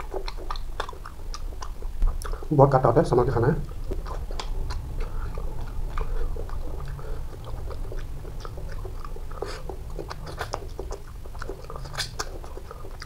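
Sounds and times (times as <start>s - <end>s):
steady low hum: 0.0s - 13.0s
wet chewing clicks and smacks: 0.0s - 13.0s.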